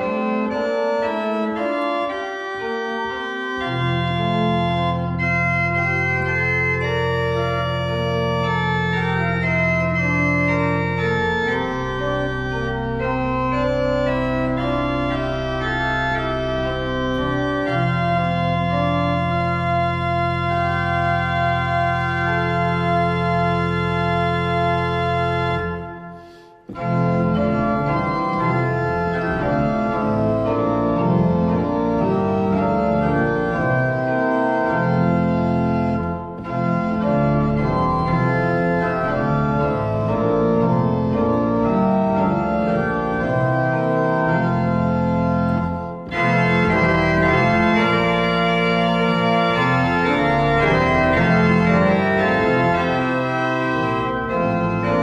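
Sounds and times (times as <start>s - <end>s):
organ playing sustained chords: 0.0s - 55.0s.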